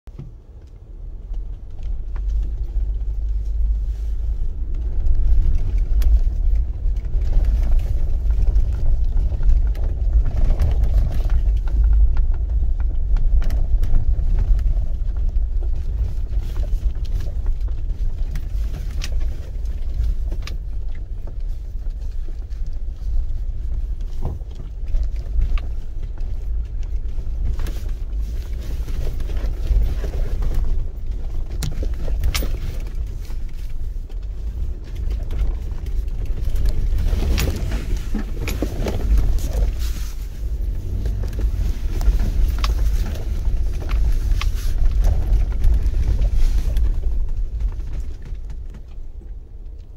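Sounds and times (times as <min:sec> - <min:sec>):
vehicle rumbling over rocky road: 0:00.1 - 0:49.9.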